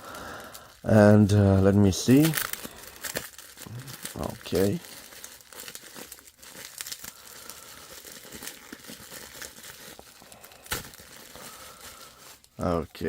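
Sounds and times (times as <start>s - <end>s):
paper packaging crinkling: 0.0s - 13.0s.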